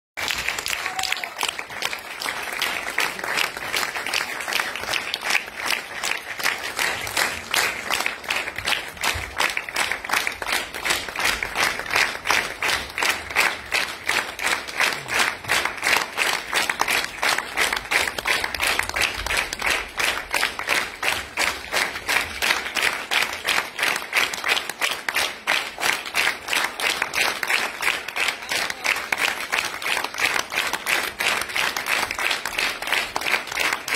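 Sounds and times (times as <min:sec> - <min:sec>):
audience clapping in rhythm: 0:00.2 - 0:33.9.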